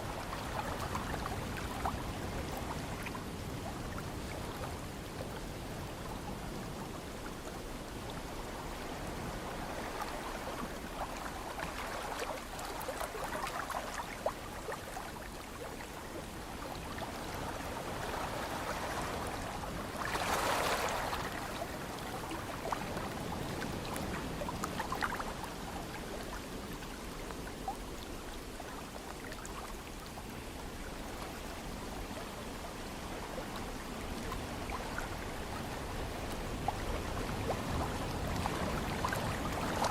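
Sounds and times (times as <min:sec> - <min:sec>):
ocean waves washing on shore: 0:00.0 - 0:39.9
water splashes and trickles: 0:00.0 - 0:39.9.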